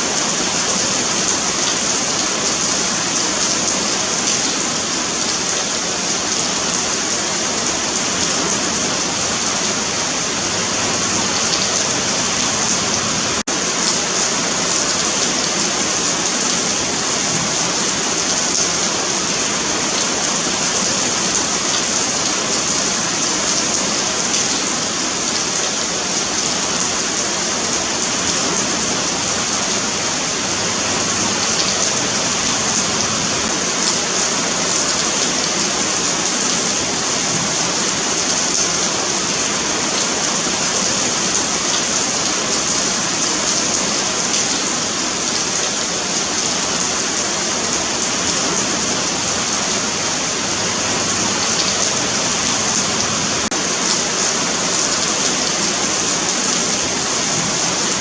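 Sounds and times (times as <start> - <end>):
rain falling on pavement: 0.0 - 58.0.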